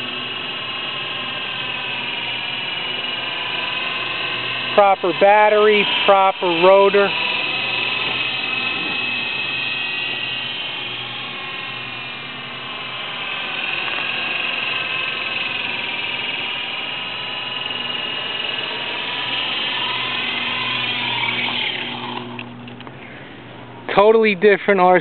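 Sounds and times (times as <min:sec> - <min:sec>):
toy helicopter motor whine: 0:00.0 - 0:23.4.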